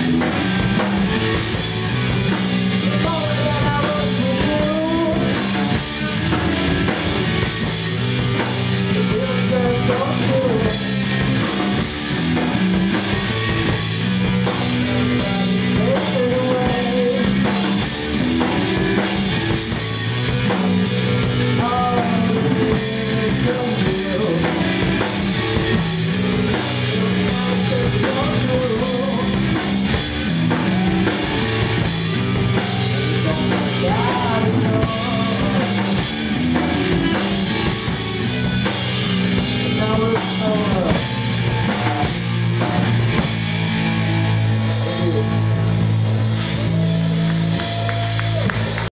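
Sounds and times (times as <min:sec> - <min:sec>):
electric guitar bent notes: 0:00.0 - 0:48.9
live rock band playing: 0:00.0 - 0:48.9.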